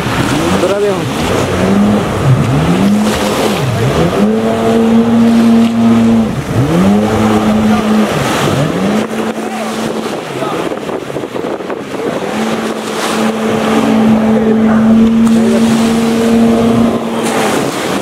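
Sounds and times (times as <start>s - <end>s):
jet ski engine revving: 0.0s - 18.0s
water spray rushing: 0.0s - 18.0s.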